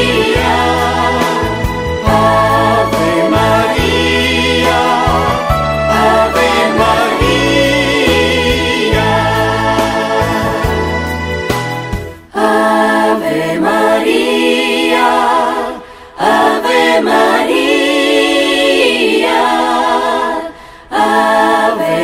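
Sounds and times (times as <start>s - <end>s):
voices singing a cappella: 0.0s - 11.2s, 12.3s - 22.0s.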